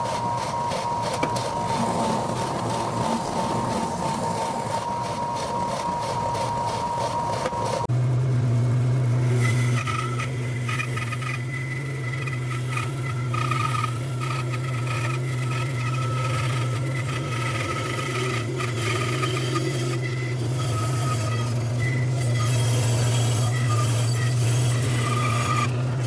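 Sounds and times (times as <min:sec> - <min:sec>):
faint motor whine: 0:00.0 - 0:26.0
machine motor humming: 0:00.0 - 0:26.0.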